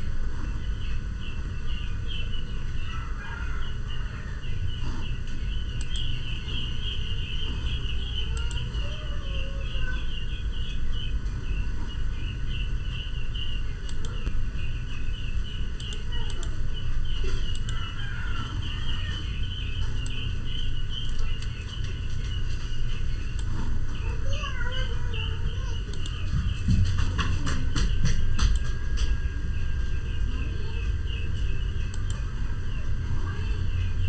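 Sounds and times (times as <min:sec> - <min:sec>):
low hum: 0:00.0 - 0:34.0
rapid high-pitched chirping: 0:00.0 - 0:34.0.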